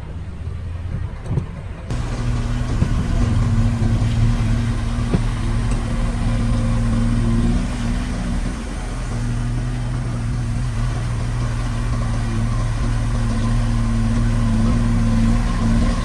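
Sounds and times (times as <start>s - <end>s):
heavy diesel engine under load: 0.0s - 16.0s.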